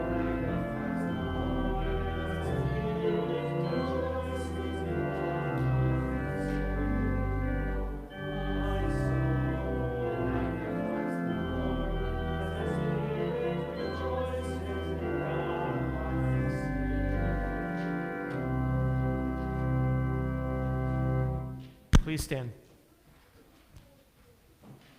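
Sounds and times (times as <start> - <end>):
church organ chords: 0.0 - 21.7.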